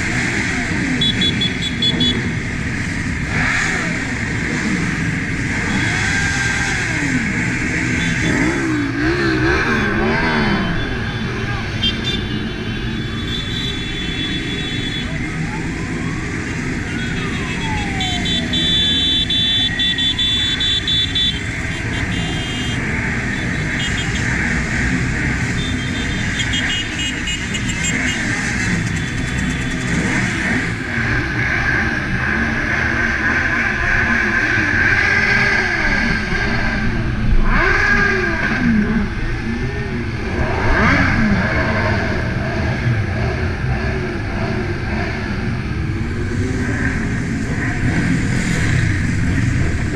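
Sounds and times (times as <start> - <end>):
motorcycle engines revving: 0.0 - 49.9
traffic noise: 0.0 - 49.9.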